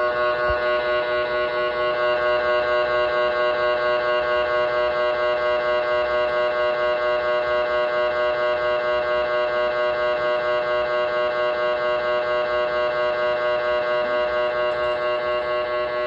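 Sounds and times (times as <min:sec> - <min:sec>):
mri scanner pulsing drone: 0:00.0 - 0:16.0.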